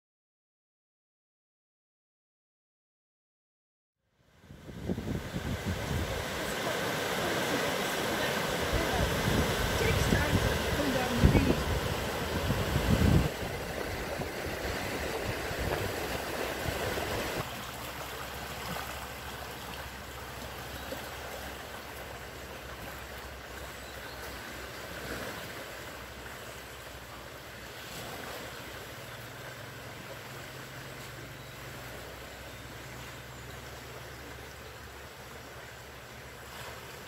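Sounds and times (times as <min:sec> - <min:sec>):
floodwater rushing over rocks: 0:04.6 - 0:37.0.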